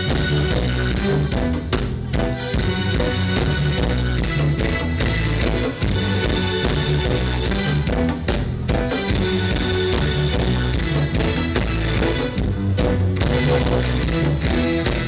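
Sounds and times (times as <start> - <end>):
live band playing instrumental: 0.0 - 15.0.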